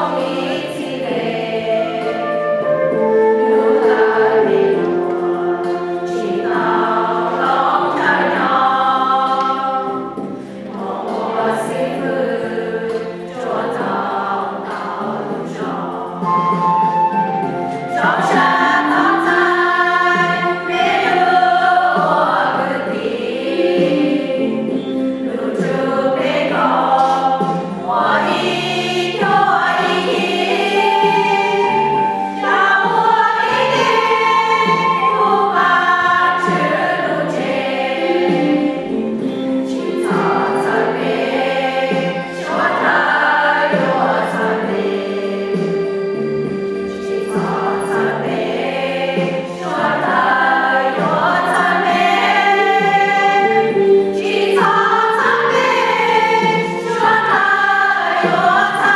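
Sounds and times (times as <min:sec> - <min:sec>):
group singing a hymn: 0:00.0 - 0:58.9.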